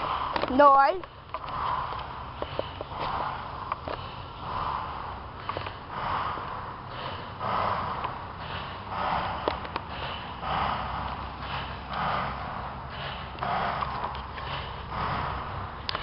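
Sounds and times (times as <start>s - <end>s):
breathing close to microphone: 0.0s - 16.0s.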